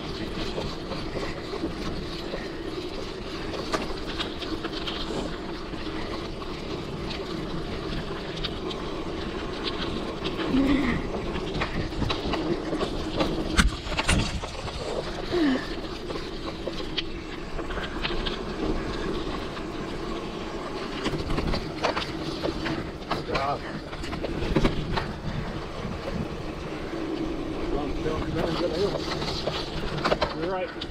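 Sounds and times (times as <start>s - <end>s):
bike rattling and clicking: 0.0s - 30.9s
bike tyres rumbling on trail: 0.0s - 30.9s.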